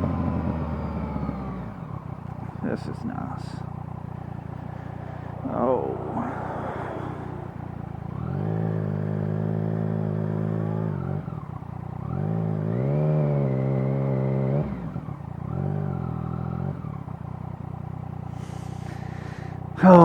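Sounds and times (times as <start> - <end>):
motorcycle engine pulling away: 0.0 - 20.0.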